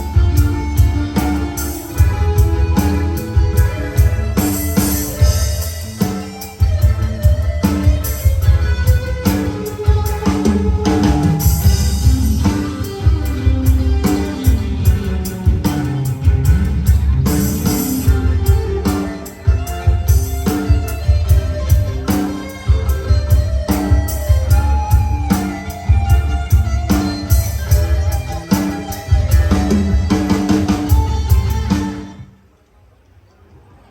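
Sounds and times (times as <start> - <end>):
loud music with bass drums and guitar: 0.0 - 32.3.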